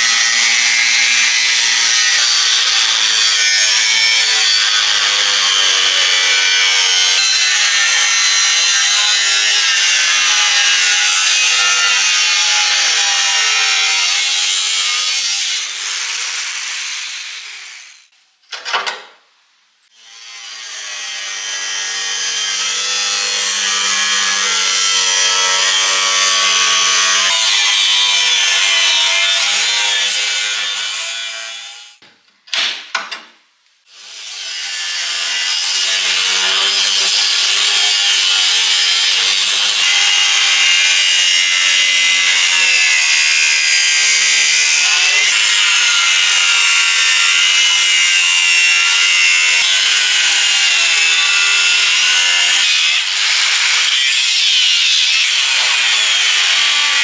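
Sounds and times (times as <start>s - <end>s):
power tool grinding steel: 0.0s - 18.1s, 20.0s - 32.0s, 33.9s - 57.0s.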